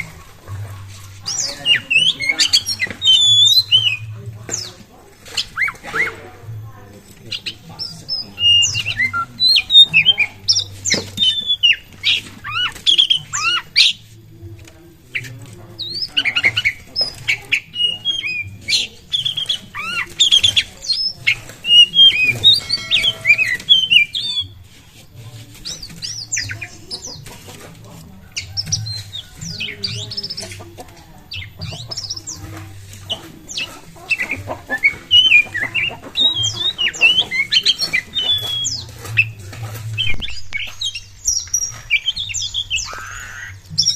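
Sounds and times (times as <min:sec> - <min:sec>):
songbird whistling and scratchy notes: 0:00.0 - 0:14.2, 0:15.1 - 0:43.9.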